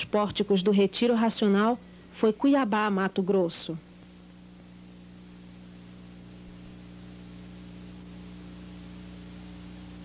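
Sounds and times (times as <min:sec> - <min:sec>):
film soundtrack hiss: 0:00.0 - 0:10.0
steady electrical hum: 0:00.0 - 0:10.0.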